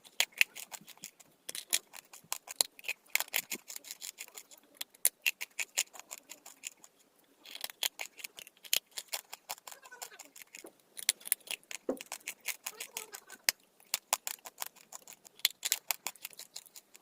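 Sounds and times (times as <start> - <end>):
dry clay crunching: 0.0 - 17.0.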